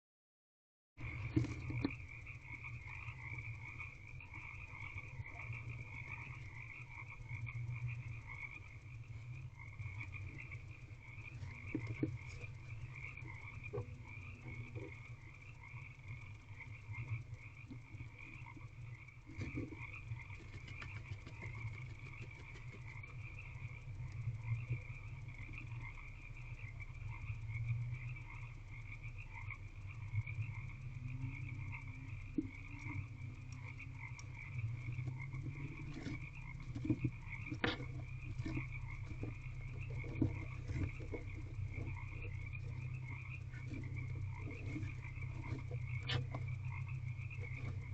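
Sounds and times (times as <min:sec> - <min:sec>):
frogs croaking: 0:01.0 - 0:47.9
steady low hum: 0:01.0 - 0:47.9.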